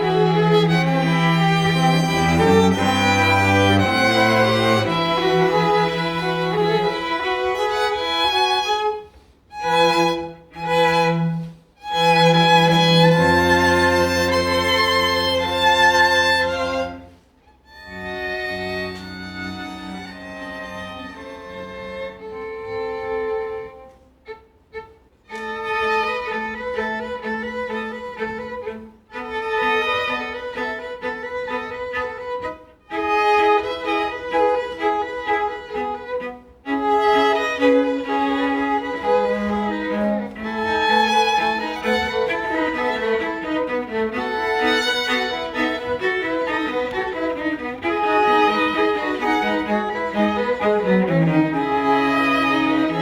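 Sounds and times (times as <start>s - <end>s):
bowed strings playing: 0.0s - 8.7s, 9.6s - 17.2s, 17.8s - 23.8s, 26.2s - 53.0s.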